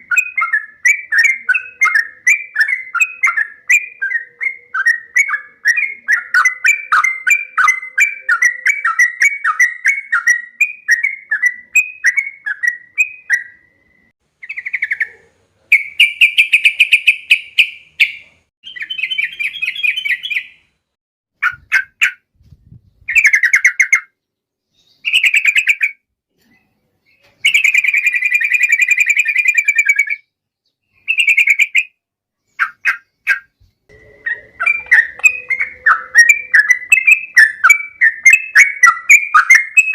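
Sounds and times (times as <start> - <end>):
bird chirping and trilling: 0.0 - 20.7, 21.4 - 39.9.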